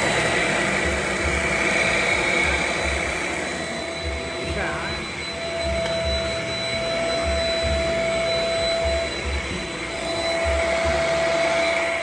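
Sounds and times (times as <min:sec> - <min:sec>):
vacuum cleaner motor whirring: 0:00.0 - 0:12.0.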